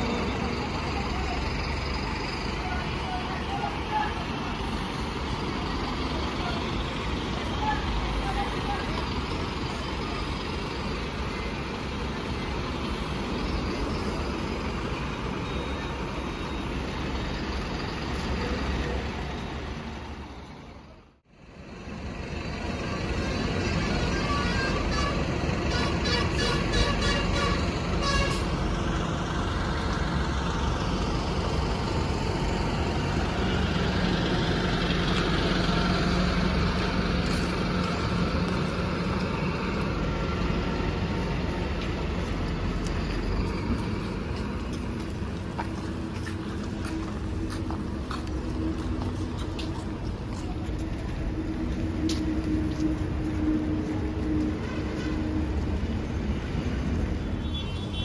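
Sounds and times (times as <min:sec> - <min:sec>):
bus diesel engines droning: 0:00.0 - 0:58.0.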